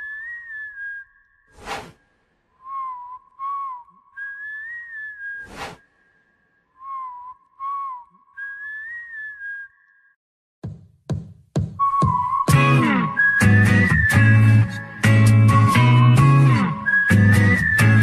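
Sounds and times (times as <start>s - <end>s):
whistling music: 0.0s - 1.5s, 2.6s - 10.2s, 11.7s - 18.0s.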